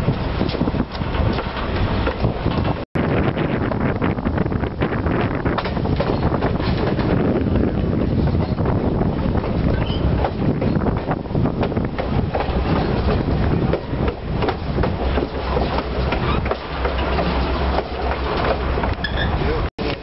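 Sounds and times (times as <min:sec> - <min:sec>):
train rumbling on track: 0:00.0 - 0:20.0
wheels clacking on rails: 0:00.0 - 0:20.0.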